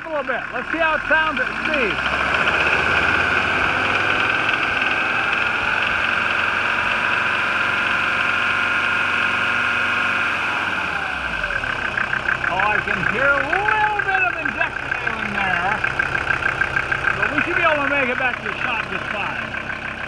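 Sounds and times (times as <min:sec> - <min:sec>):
diesel engine at raised revs: 0:00.0 - 0:20.0.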